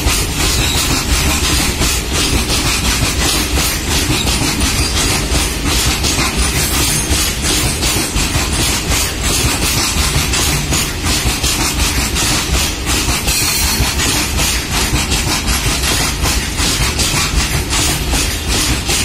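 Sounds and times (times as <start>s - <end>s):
freight train rumbling past: 0.0s - 19.0s
wheels clacking over rail joints: 0.0s - 19.0s.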